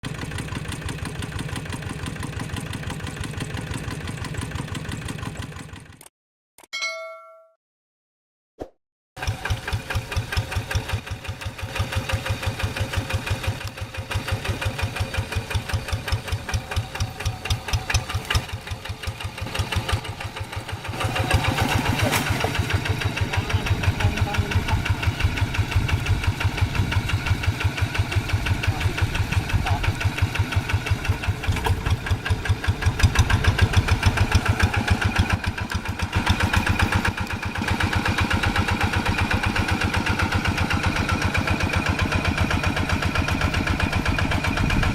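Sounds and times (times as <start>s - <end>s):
hand tractor diesel engine chugging: 0.1s - 6.0s, 9.2s - 44.9s.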